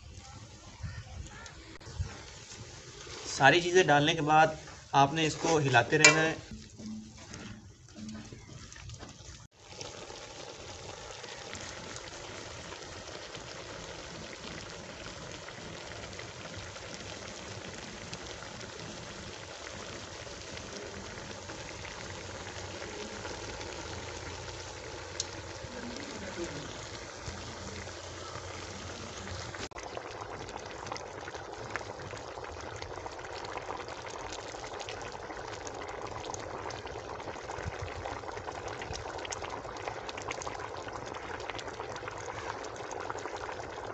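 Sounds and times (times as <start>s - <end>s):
curry bubbling in a pot: 0.0s - 43.9s.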